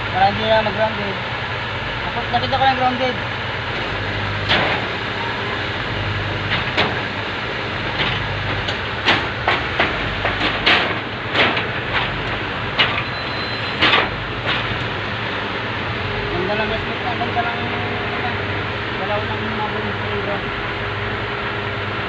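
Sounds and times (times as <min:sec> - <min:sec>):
truck engine humming: 0:00.0 - 0:22.0.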